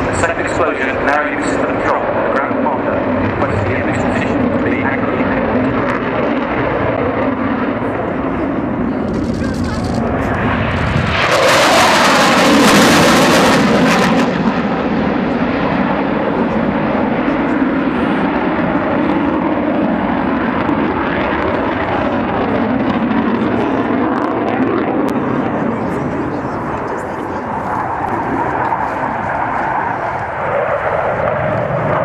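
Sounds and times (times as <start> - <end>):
jet making a low pass: 0.0 - 32.0.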